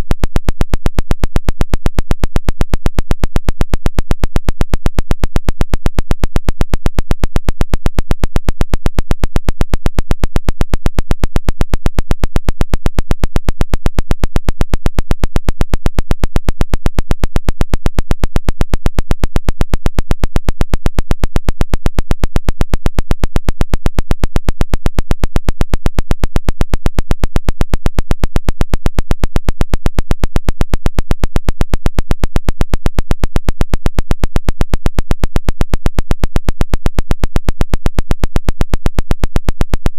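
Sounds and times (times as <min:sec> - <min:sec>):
rapid radio clicking pulses: 0:00.1 - 0:39.9.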